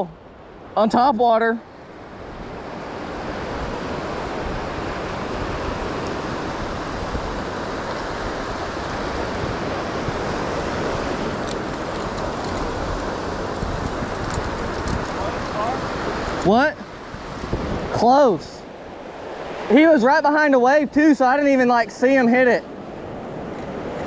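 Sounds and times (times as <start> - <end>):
surf washing over sand: 0.0 - 24.0.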